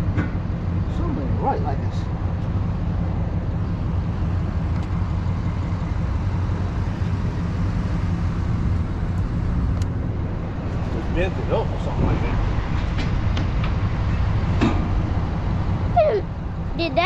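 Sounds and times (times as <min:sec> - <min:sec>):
truck engine drone and road noise: 0:00.0 - 0:17.0.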